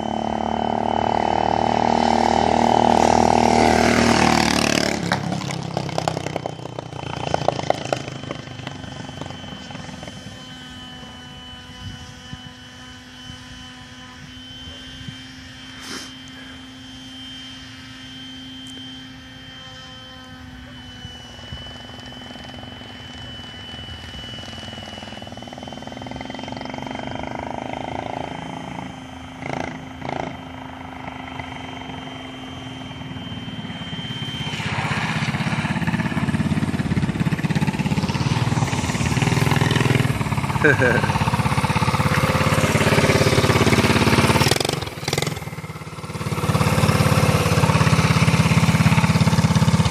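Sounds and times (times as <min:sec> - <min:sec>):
motorized bicycle engine running: 0:00.0 - 0:15.2, 0:20.6 - 0:49.9.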